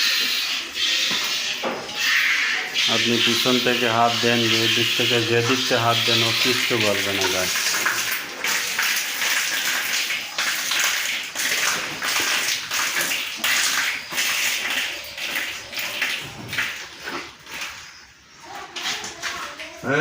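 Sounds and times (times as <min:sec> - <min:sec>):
milk squirting into a pail: 0:00.0 - 0:19.8.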